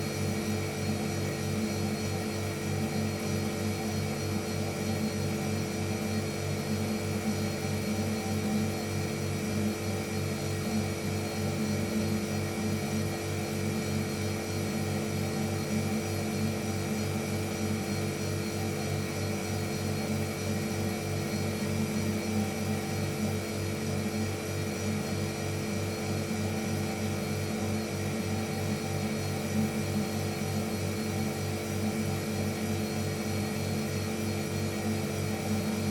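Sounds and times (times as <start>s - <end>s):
refrigerator humming: 0.0s - 35.9s.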